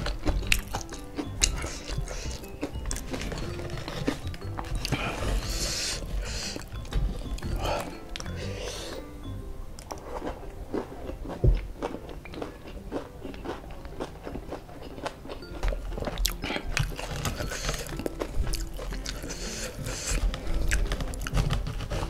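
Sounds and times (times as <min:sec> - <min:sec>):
chewing crispy food: 0:00.0 - 0:09.1, 0:09.8 - 0:22.0.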